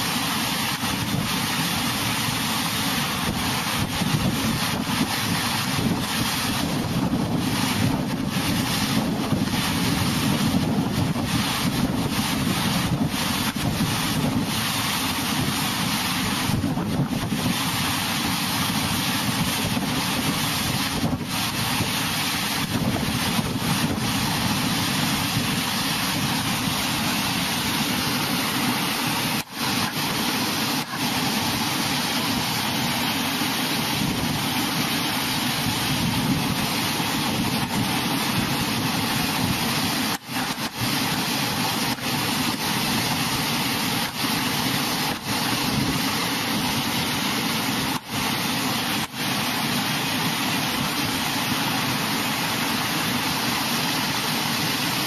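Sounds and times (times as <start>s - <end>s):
water rushing down concrete channel: 0.0s - 55.0s.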